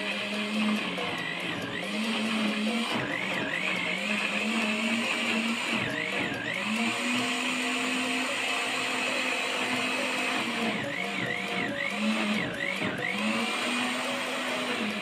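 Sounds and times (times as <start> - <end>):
electric blender running: 0.0 - 15.0.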